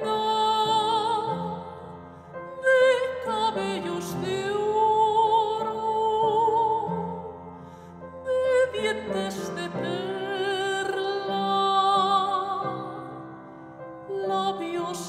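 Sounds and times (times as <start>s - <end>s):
operatic soprano singing: 0.0s - 7.4s, 8.2s - 13.4s, 14.0s - 15.0s
piano accompaniment: 0.0s - 15.0s.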